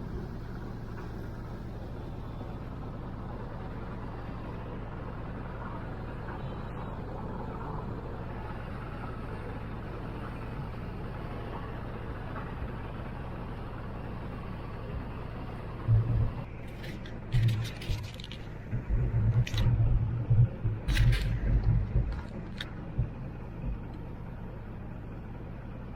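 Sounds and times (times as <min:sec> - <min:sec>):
boat engine droning: 0:00.0 - 0:25.9.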